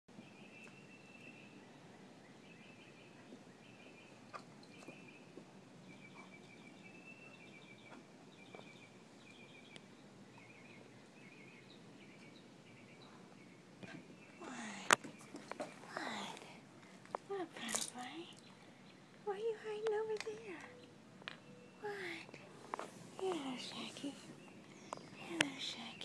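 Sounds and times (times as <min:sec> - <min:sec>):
bird chirping in trills: 0:00.2 - 0:16.3, 0:17.6 - 0:22.4.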